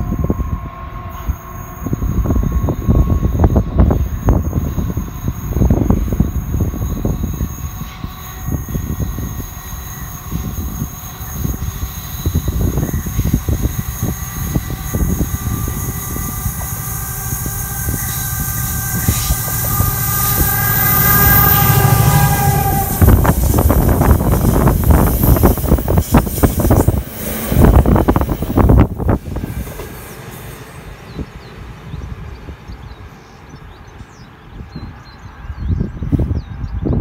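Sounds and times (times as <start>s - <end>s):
diesel locomotive engine drone: 0.0s - 37.0s.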